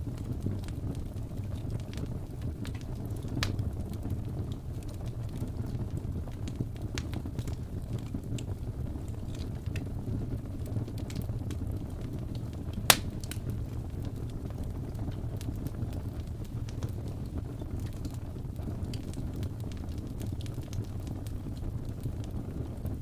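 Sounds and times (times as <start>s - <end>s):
fire crackling and popping: 0.0s - 23.0s
wood fire rumbling: 0.0s - 23.0s.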